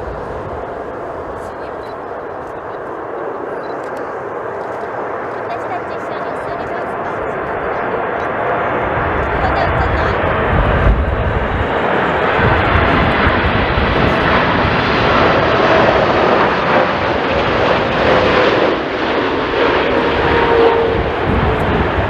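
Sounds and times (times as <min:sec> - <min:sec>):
jet engines roaring: 0:00.0 - 0:22.0
wind rumbling on microphone: 0:00.0 - 0:22.0.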